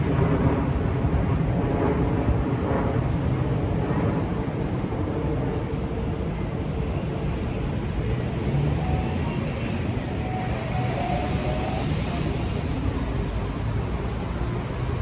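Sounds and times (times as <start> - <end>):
low city street rumble: 0.0 - 15.0.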